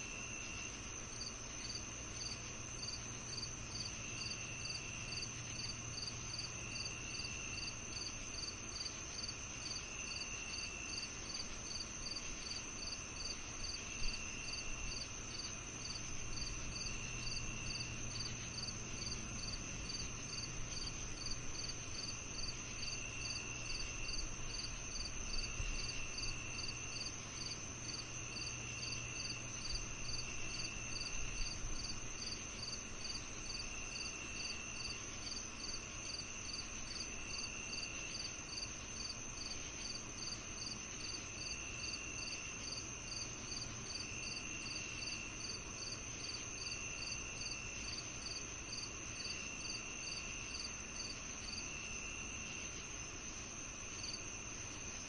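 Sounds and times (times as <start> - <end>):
faint low hum: 0.0 - 55.0
high cricket chirps: 0.0 - 55.0
high insect trill: 0.0 - 55.0
lower insect trill: 0.0 - 55.0.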